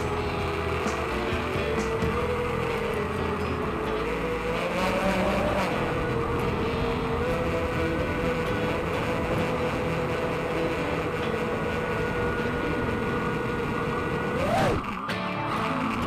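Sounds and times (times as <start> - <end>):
quadcopter motors whining: 0.0 - 16.0
wind rumble: 0.0 - 16.0.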